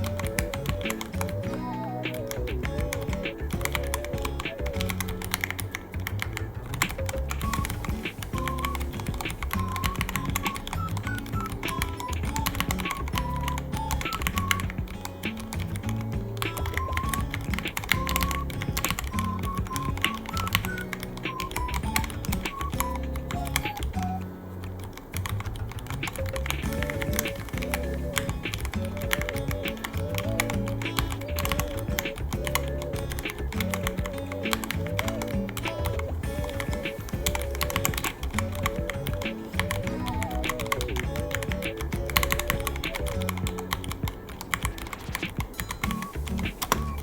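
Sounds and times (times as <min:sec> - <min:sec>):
background music: 0:00.0 - 0:47.0
mechanical keyboard typing: 0:00.0 - 0:47.0.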